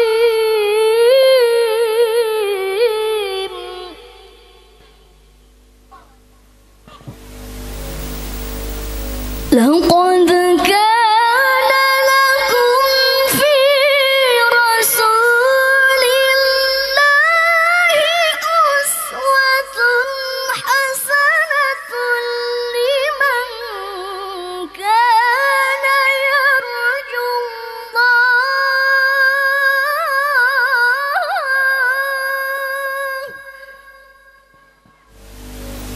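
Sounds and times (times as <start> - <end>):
woman reciting melodically: 0.0 - 5.0, 9.5 - 35.1.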